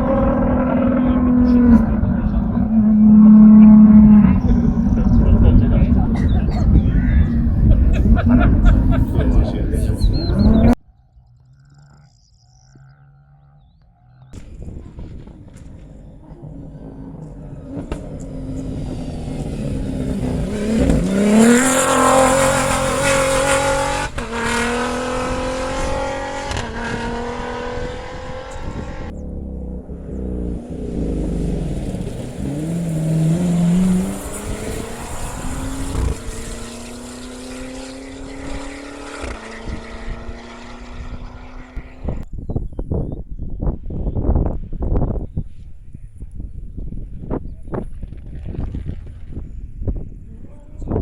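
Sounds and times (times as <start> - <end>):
race car revving past: 0.0 - 13.6, 14.3 - 42.2
race car accelerating: 0.0 - 42.3.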